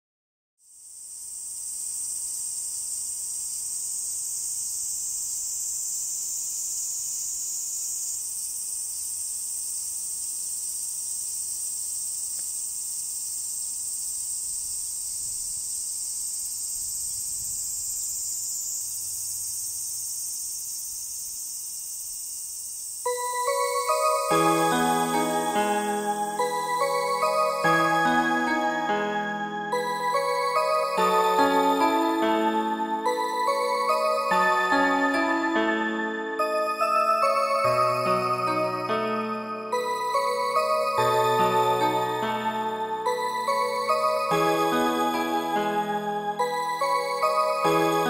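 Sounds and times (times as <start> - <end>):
high-pitched insect chorus: 0.6 - 48.0.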